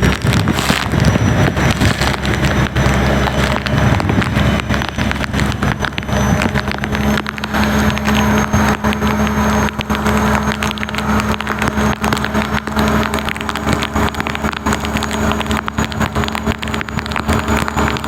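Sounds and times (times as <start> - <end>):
boat engine droning: 0.0 - 18.0
water splashing: 0.0 - 18.0
wind noise: 0.0 - 18.0.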